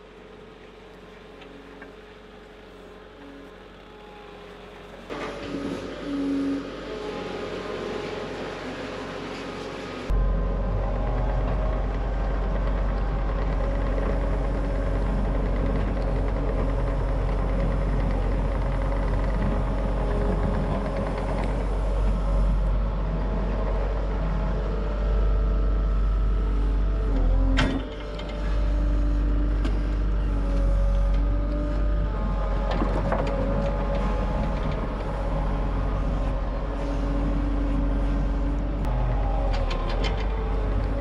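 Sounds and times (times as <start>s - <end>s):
diesel engine rumbling: 0.0s - 41.0s.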